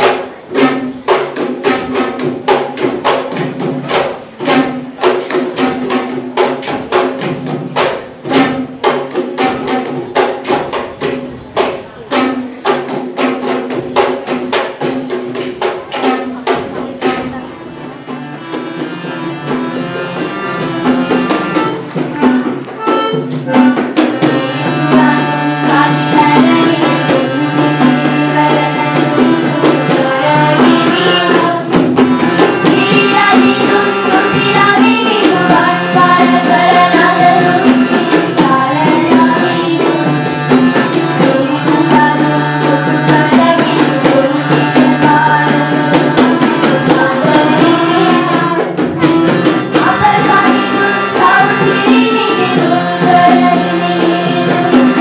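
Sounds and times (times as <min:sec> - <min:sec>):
hand drum rhythm: 0:00.0 - 0:55.0.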